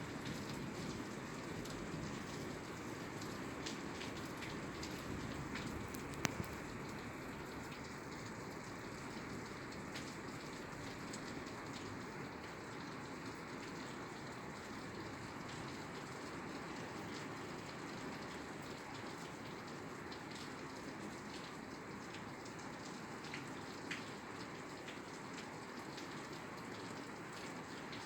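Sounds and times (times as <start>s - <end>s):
rain falling on a roof: 0.0s - 28.0s.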